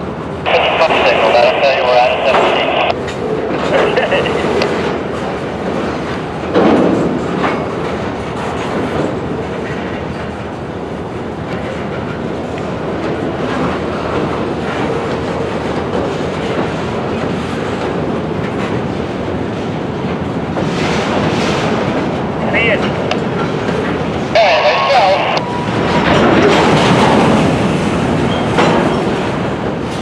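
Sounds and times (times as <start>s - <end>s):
freight cars rumbling on track: 0.0s - 30.0s.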